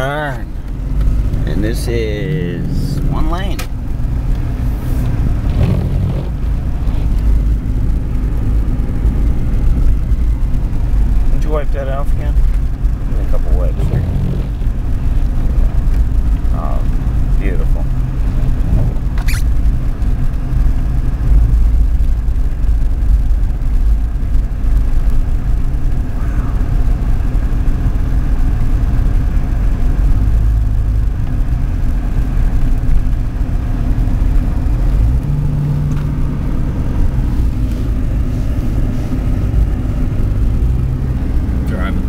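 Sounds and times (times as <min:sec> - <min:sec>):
car engine and tyres rumbling: 0:00.0 - 0:42.0.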